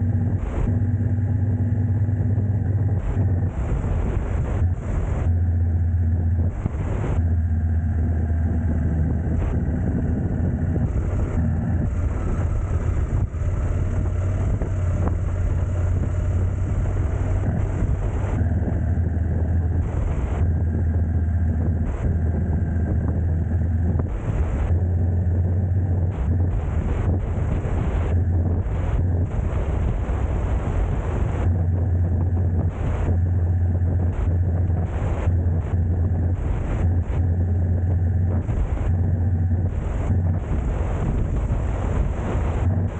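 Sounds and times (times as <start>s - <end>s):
faint drifting tone: 0.0s - 42.9s
vehicle engine and road rumble: 0.0s - 42.9s
wind buffeting microphone: 0.0s - 42.9s.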